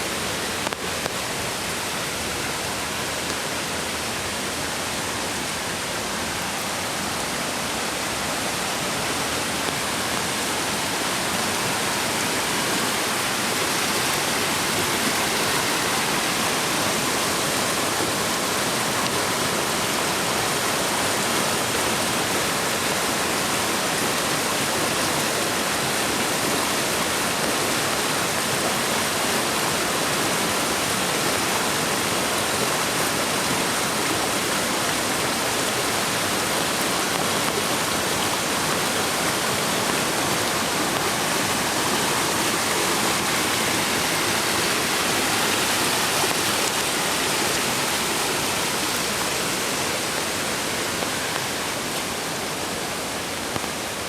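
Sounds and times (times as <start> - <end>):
creek rushing over rocks: 0.0 - 54.0.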